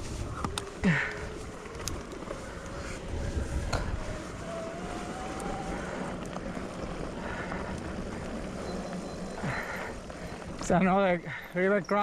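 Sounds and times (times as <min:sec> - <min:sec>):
faint rising whine: 0:00.0 - 0:10.7
wind buffeting microphone: 0:00.0 - 0:11.3
bike tyres rolling on dirt: 0:00.0 - 0:12.0.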